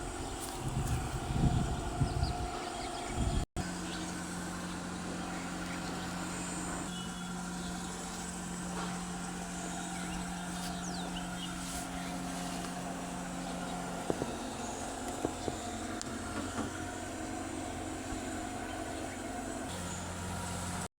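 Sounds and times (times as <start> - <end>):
mechanical hum: 0.0 - 20.9.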